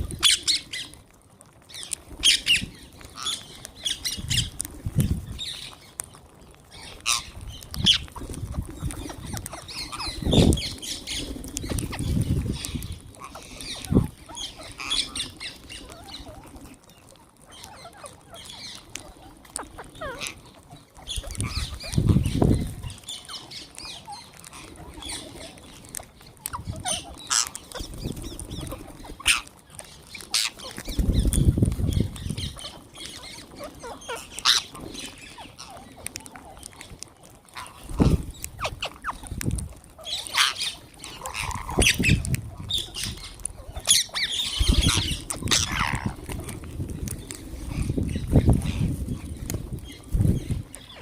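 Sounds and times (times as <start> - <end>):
parrots squawking and chirping: 0.0 - 1.0, 1.7 - 51.0.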